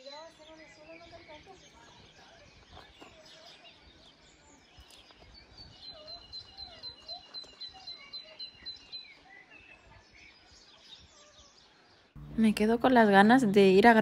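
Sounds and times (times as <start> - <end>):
faint background birdsong: 0.0 - 14.0.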